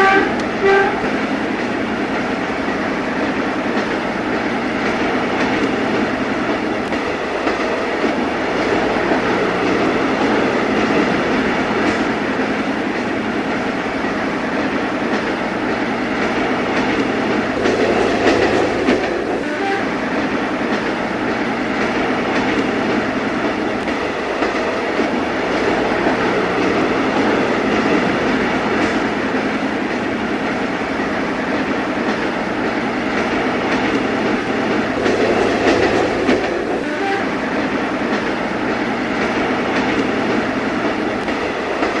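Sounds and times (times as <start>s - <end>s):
train wheels on track: 0.0s - 42.0s.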